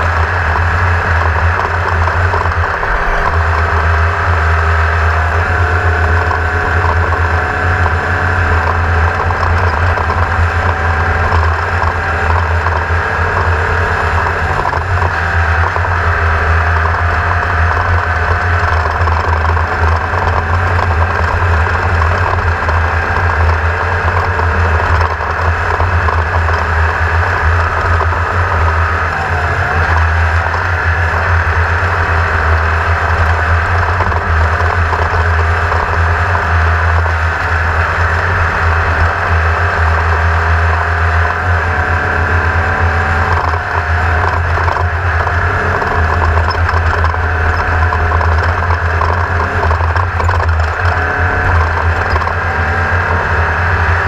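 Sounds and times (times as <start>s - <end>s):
engine droning steadily: 0.0s - 54.0s.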